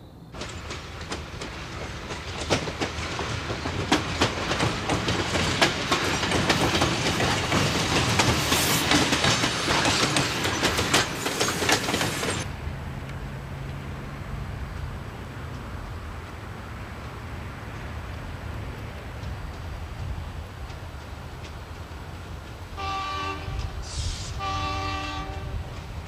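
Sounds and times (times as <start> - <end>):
train wheels clattering on rails: 0.3 - 12.5, 14.6 - 26.0.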